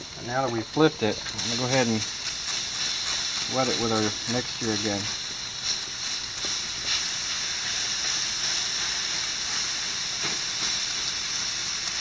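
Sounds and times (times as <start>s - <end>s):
liquid sizzling on hot grill: 0.0s - 12.0s.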